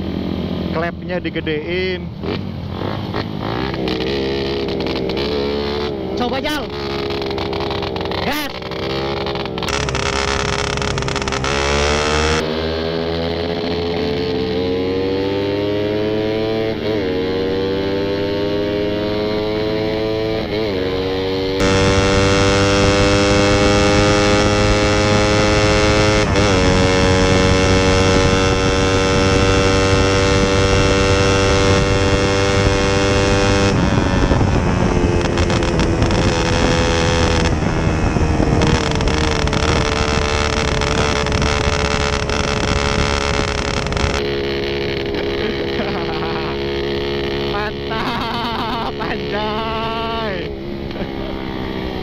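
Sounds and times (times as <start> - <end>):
motorcycle engine at full throttle: 0.0 - 52.0.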